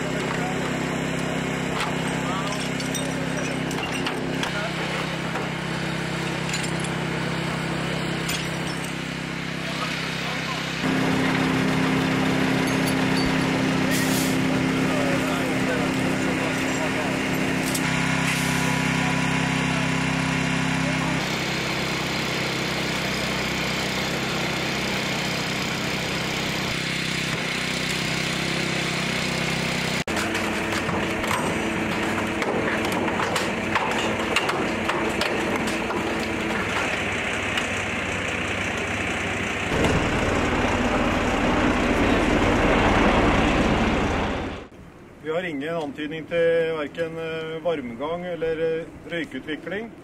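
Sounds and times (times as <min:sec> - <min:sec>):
small engine running: 0:00.0 - 0:44.7.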